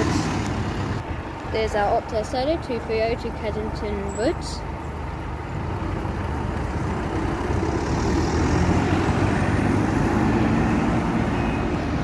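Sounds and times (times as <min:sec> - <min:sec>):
bus engine under load: 0:00.0 - 0:12.0.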